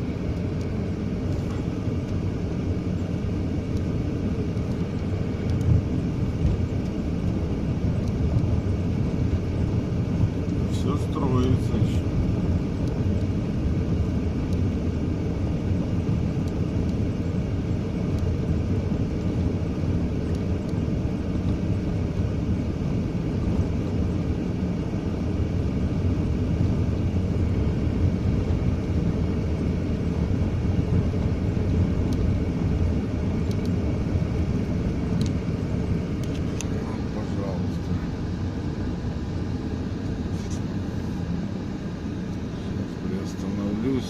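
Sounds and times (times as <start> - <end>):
road rumble: 0.0 - 44.0
van engine running: 0.0 - 44.0.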